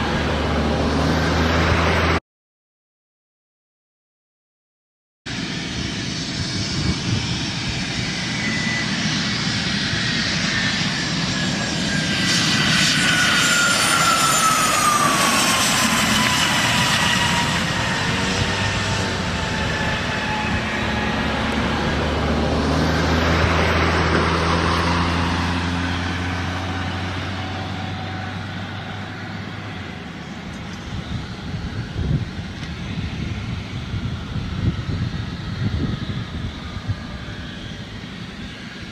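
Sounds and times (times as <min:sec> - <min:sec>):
jet engine whine passing: 0:00.0 - 0:02.2, 0:05.3 - 0:38.9.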